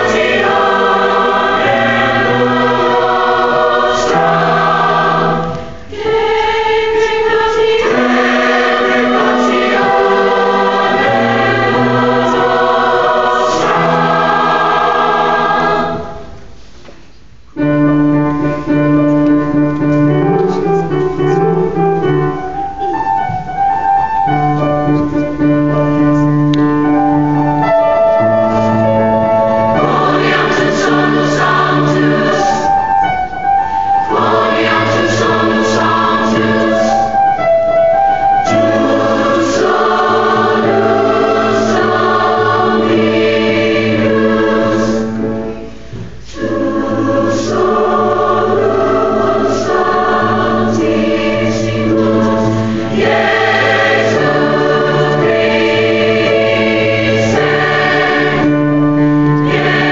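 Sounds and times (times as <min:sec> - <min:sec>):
choir singing in parts: 0:00.0 - 0:16.7, 0:22.6 - 0:59.9.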